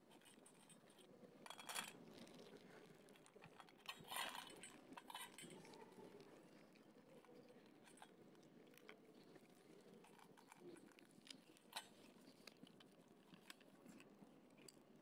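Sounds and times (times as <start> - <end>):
cats eating dry kibble: 0.0 - 15.0.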